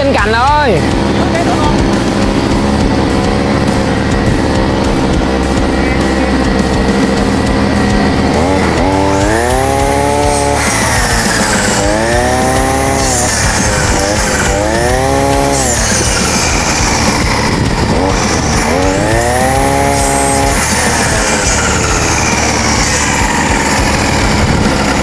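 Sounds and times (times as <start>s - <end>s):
brush cutter engine revving: 0.0s - 25.0s.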